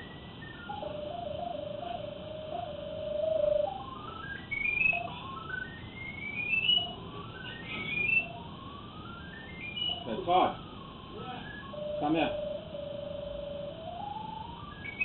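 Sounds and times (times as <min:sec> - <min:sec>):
rising electronic tone: 0:00.0 - 0:10.1, 0:11.2 - 0:15.0.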